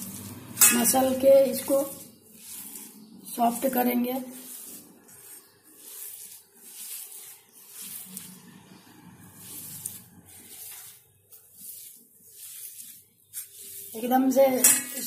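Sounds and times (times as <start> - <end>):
hand kneading cheese on steel plate: 0.0 - 15.0.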